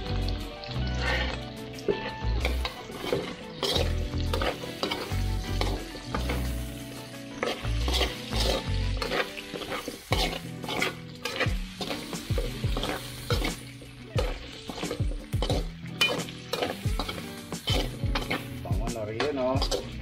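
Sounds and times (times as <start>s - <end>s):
vegetables sizzling in hot oil: 0.0s - 20.0s
metal spatula scraping a wok: 0.9s - 18.8s, 19.4s - 20.0s.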